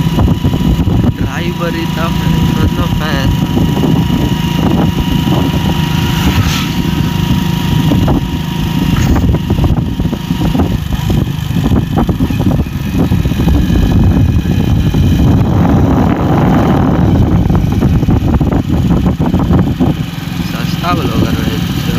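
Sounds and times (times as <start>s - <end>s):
road and wind noise: 0.0s - 21.9s
vehicle engine running: 0.0s - 21.9s.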